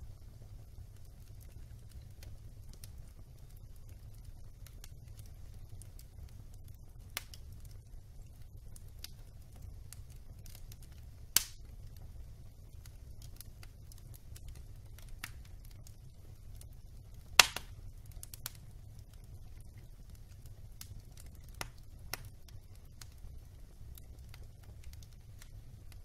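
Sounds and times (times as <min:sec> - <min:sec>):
wood logs crackling in fireplace: 0:00.0 - 0:26.0
loud pops from fire: 0:00.1 - 0:26.0.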